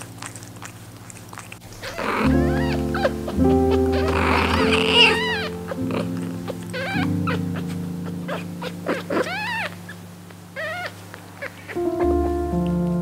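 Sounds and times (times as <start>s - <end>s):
kittens mewing: 0.1s - 10.0s, 10.6s - 12.4s.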